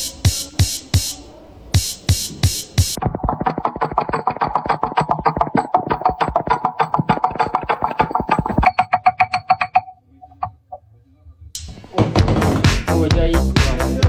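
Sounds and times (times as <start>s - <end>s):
electronic music with drum-machine beat: 0.0s - 1.2s, 1.8s - 10.6s, 11.6s - 14.0s.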